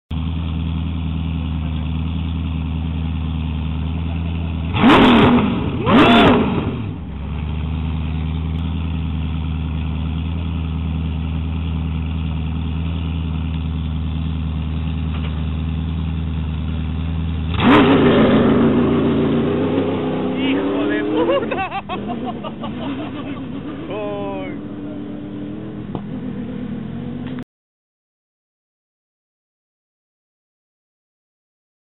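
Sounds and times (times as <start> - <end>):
truck engine idling and revving: 0.1 - 27.5.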